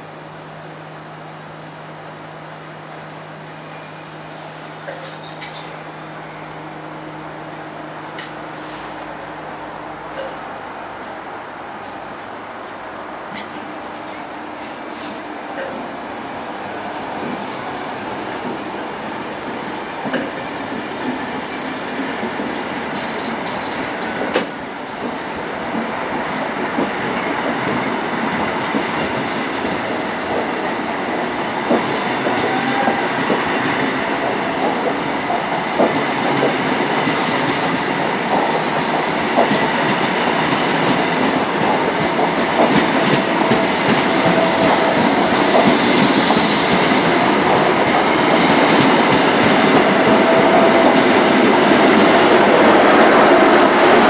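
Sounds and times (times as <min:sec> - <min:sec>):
passenger train rolling past: 0:00.0 - 0:54.0.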